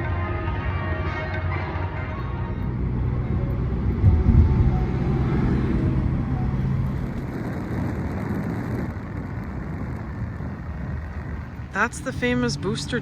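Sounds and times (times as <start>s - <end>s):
vehicle engine rumbling: 2.0s - 13.0s.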